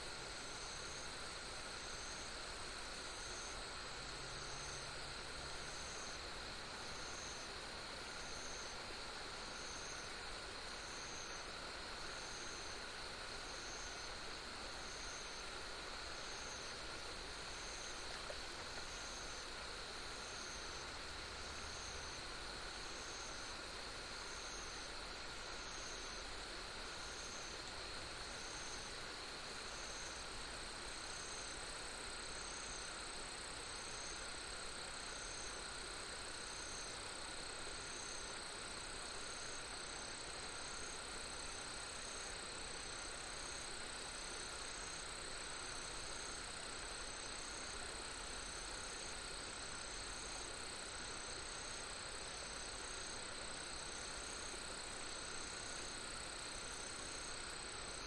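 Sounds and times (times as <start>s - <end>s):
insects trilling: 0.0s - 58.0s
repeated insect chirp: 0.0s - 58.0s
steady hiss: 0.0s - 58.0s.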